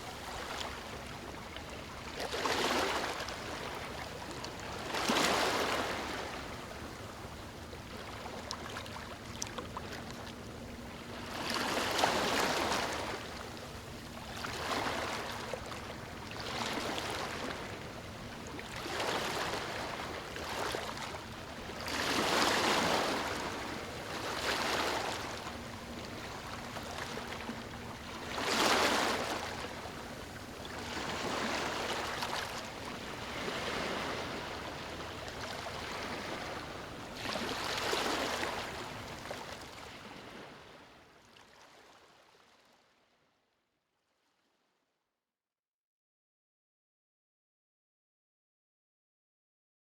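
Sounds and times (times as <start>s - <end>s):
gentle waves lapping on beach: 0.0s - 42.7s.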